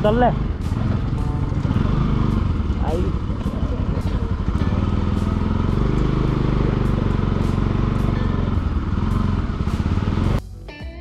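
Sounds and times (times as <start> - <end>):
motorcycle engine running: 0.0 - 10.4
guitar music: 0.0 - 11.0.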